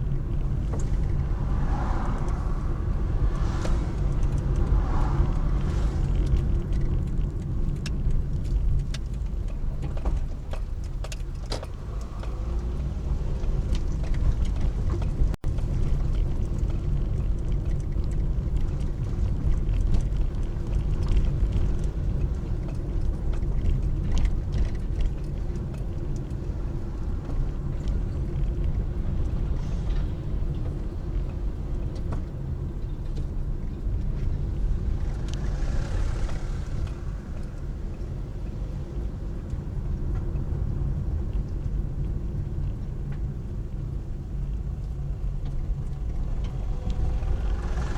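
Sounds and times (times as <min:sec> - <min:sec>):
car engine and tyre noise: 0:00.0 - 0:47.9.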